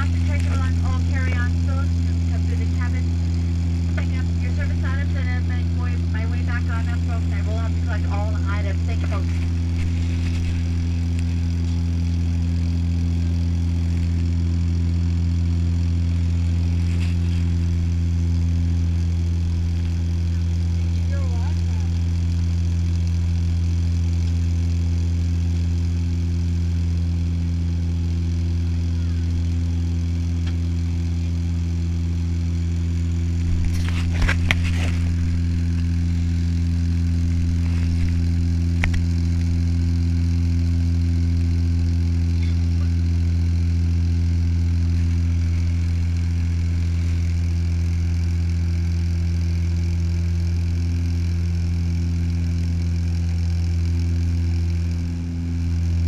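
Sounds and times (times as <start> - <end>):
propeller engine drone in cabin: 0.0 - 56.0.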